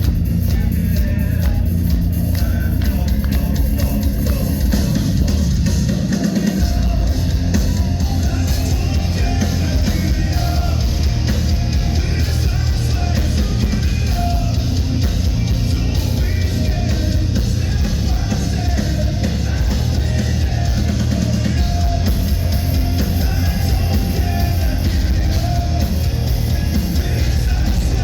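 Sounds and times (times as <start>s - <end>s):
heavy metal band playing live: 0.0s - 28.0s
pounding drum kit: 0.0s - 28.0s.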